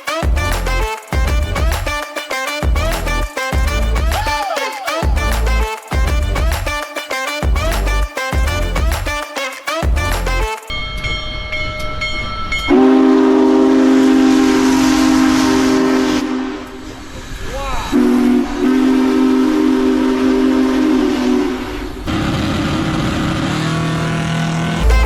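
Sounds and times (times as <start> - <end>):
multi-tone horn chords: 0.0 - 10.7, 12.7 - 16.9, 18.0 - 25.0.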